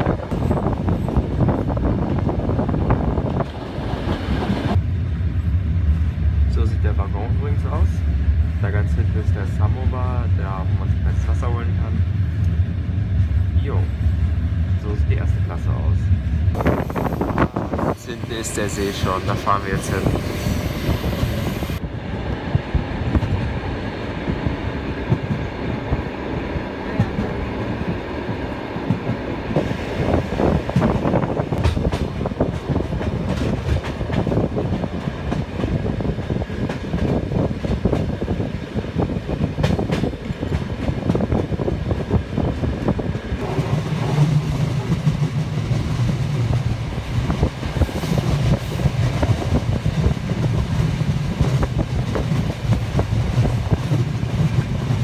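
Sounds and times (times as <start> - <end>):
train wheels rumbling and clacking: 0.0 - 55.0.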